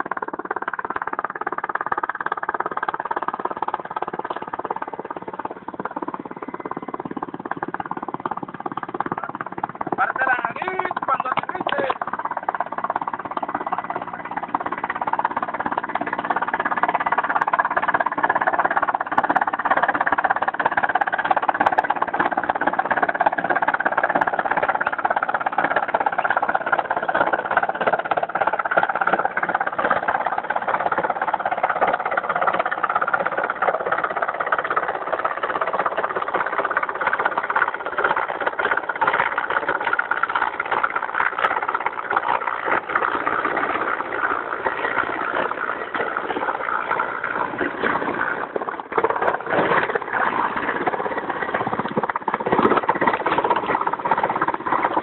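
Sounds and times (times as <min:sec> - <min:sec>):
helicopter engines and rotor: 0:00.0 - 0:55.0.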